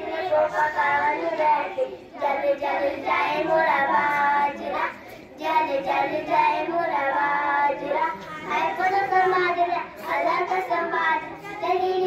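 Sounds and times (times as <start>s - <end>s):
girls singing: 0.0s - 12.0s.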